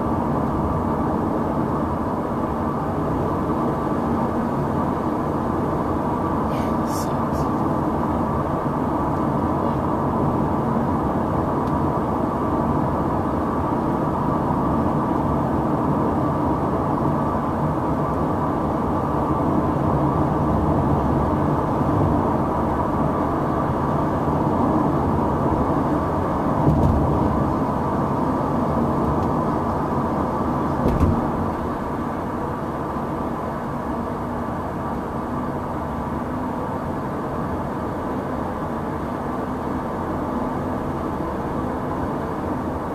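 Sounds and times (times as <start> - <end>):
in-cabin engine and road noise: 0.0 - 42.9.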